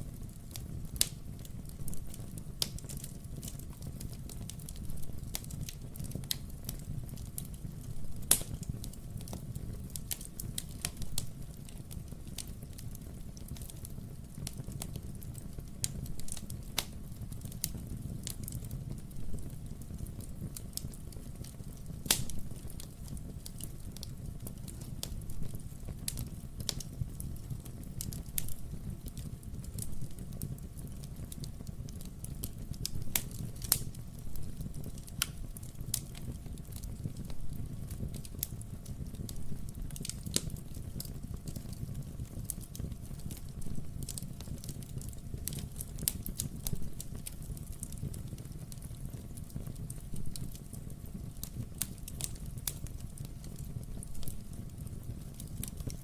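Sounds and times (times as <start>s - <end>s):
fire low rumble: 0.0s - 56.0s
wood fire crackling: 0.0s - 56.0s
sharp fire pops: 0.5s - 56.0s.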